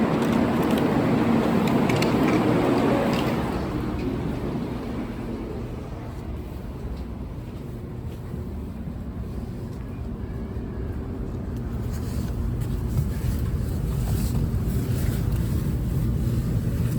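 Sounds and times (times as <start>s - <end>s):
train running: 0.0s - 16.9s.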